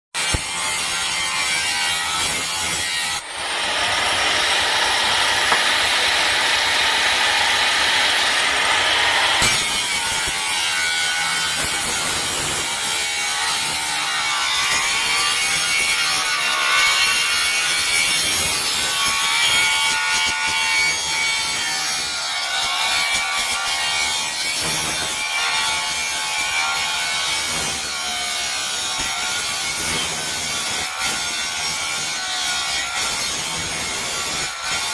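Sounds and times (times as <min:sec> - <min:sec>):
angle grinder grinding steel: 0:00.2 - 0:34.9.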